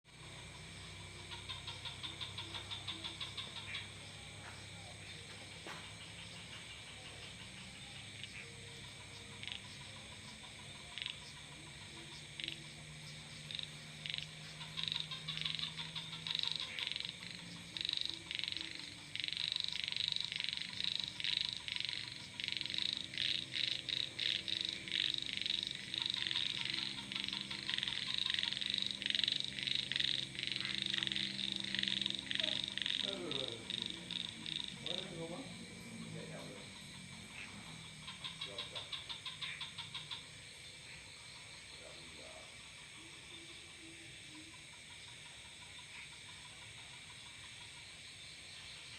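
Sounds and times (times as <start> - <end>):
faint low hum: 0.1 - 48.9
frogs calling: 0.1 - 48.9.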